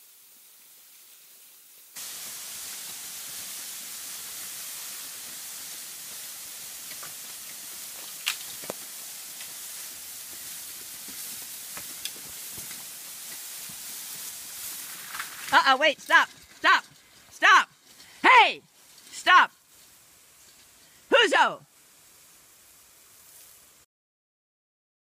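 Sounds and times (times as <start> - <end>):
bamboo canes dragged over leaves: 0.0 - 23.9.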